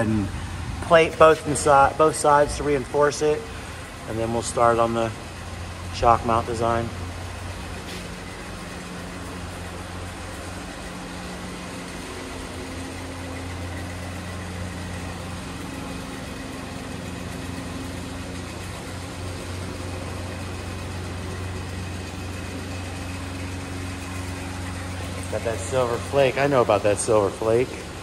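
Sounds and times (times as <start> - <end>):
machine humming: 0.0 - 28.0.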